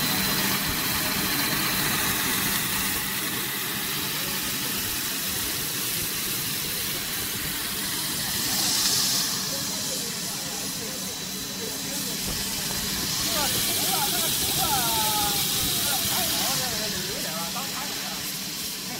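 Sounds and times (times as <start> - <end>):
steady mechanical drone with hiss: 0.0 - 18.9.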